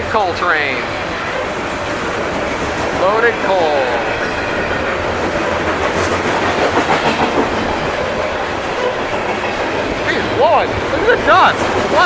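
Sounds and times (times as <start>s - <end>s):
freight train wheels on rails: 0.0s - 12.0s.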